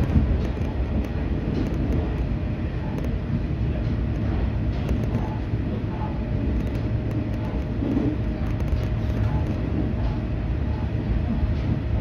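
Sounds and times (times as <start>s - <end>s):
railcar wheels and engine rumble: 0.0s - 12.0s.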